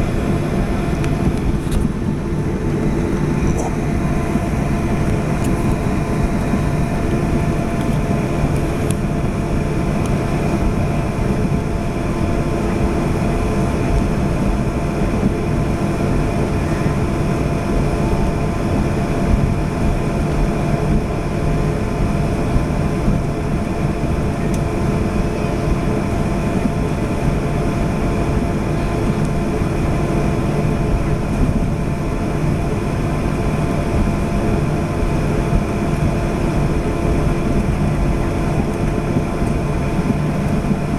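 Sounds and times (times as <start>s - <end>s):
airliner engines droning in cabin: 0.0s - 40.9s.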